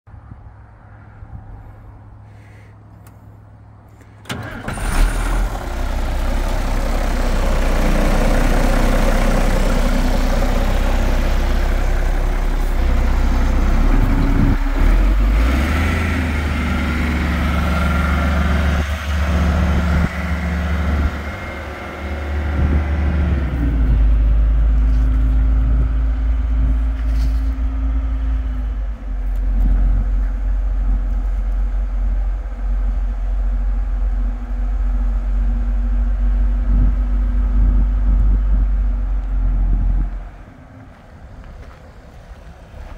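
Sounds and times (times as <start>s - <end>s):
truck engine starting and running: 2.8s - 42.9s.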